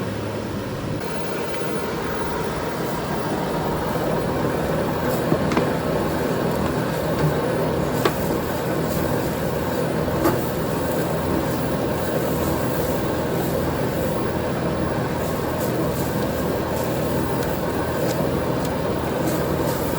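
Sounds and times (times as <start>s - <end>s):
roasting machine running: 0.0s - 19.9s.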